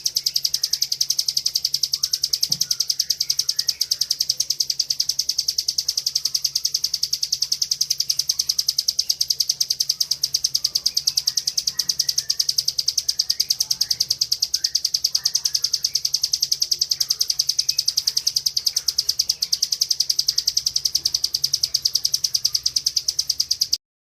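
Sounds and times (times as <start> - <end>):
bird singing rapid high notes: 0.0 - 23.8.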